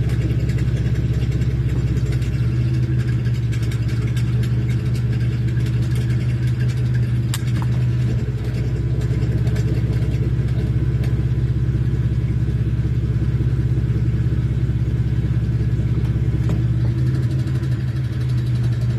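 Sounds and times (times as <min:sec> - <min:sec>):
car engine droning and pulsing: 0:00.0 - 0:18.9.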